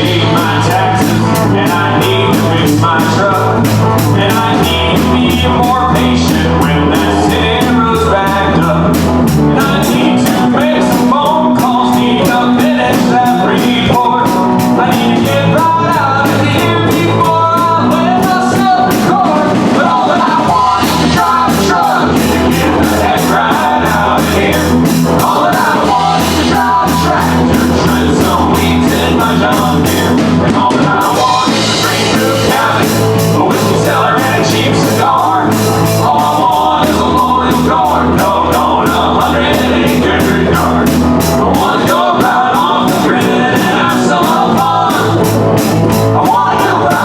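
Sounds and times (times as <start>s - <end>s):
country rock band playing: 0.0s - 47.0s
drum kit beat: 0.0s - 47.0s.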